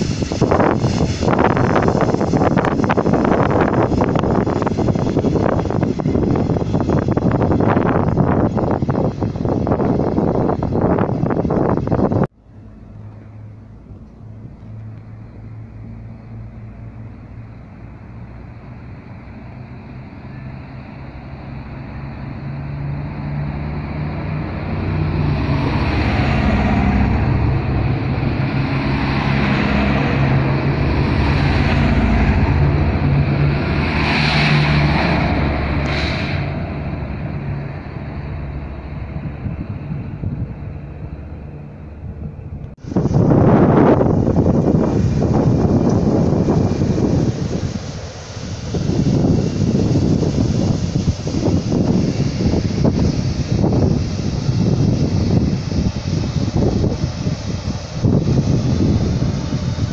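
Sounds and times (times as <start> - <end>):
train engine humming: 0.0 - 59.9
train wheel and rail noise: 0.0 - 59.9.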